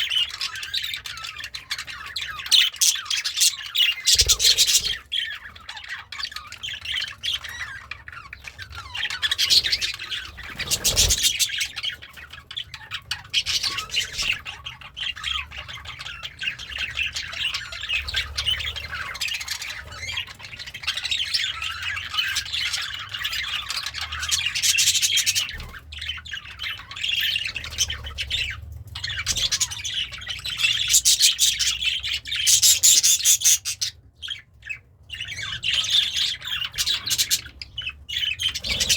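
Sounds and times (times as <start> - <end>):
budgerigar warbling and chattering: 0.0 - 38.9.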